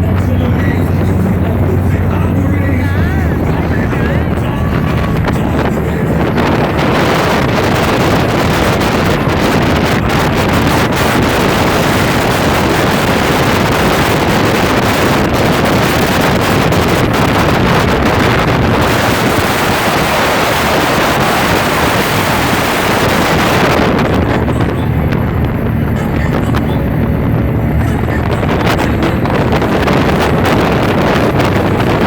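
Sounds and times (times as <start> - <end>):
rushing water: 0.0 - 32.0
speedboat engine rumble: 0.0 - 32.0
wind buffeting microphone: 0.0 - 32.0.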